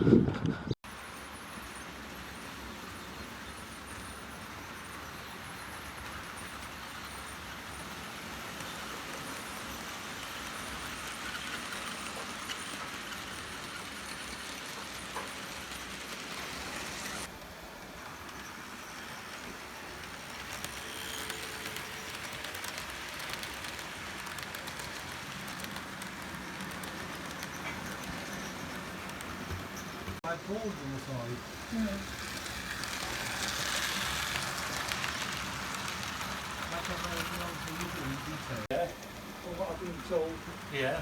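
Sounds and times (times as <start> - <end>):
model train running: 0.8 - 41.0.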